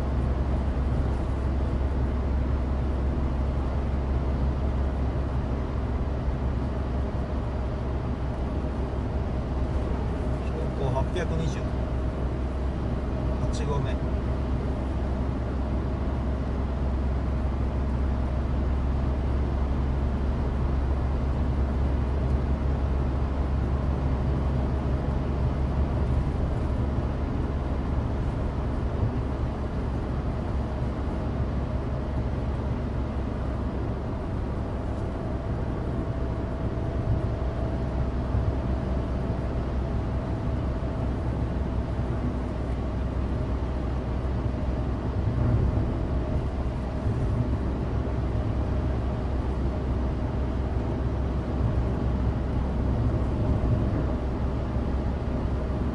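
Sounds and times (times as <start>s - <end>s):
car engine drone: 0.0s - 55.9s.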